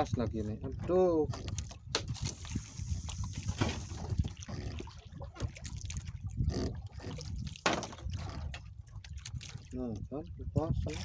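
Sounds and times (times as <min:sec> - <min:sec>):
water sloshing against boat: 0:00.0 - 0:11.0.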